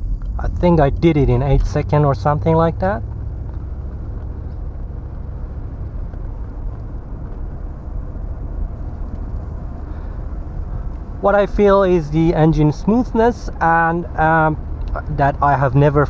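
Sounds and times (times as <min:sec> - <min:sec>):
car engine cruising: 0:00.0 - 0:16.0
tyre and road noise: 0:00.0 - 0:16.0.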